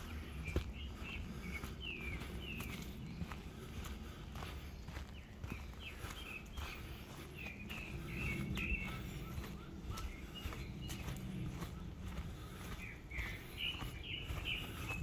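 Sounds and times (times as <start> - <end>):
distant bird chirping: 0.0 - 15.0
footsteps on forest path: 0.0 - 15.0.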